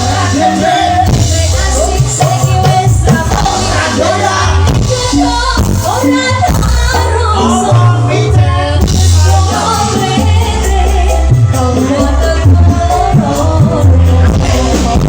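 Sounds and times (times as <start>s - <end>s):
dangdut band music: 0.0s - 15.0s
person singing: 0.0s - 15.0s.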